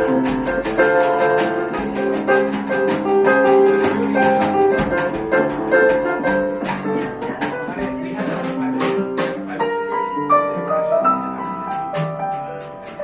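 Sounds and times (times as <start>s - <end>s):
jazz band playing: 0.0s - 13.0s
piano melody: 0.0s - 13.0s.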